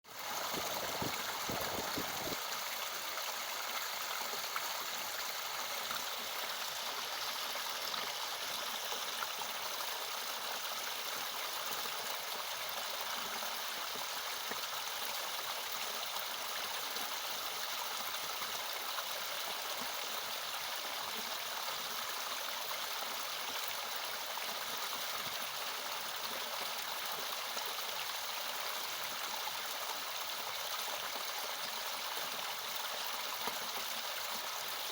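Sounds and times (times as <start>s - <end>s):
small waterfall splashing: 0.1s - 34.9s.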